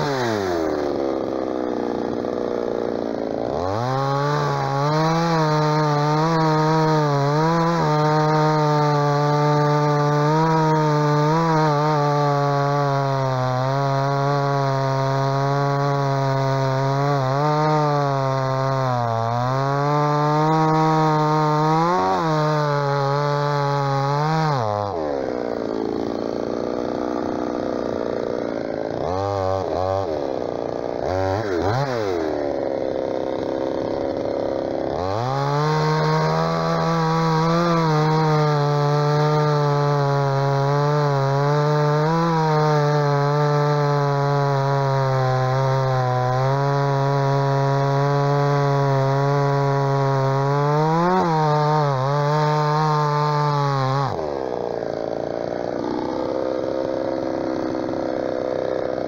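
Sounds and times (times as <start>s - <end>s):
chainsaw cutting log: 0.0s - 59.0s
chainsaw idling and revving: 0.0s - 59.0s.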